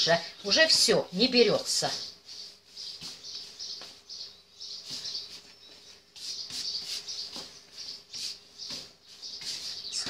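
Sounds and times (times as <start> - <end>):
dough squelching: 0.0 - 10.0.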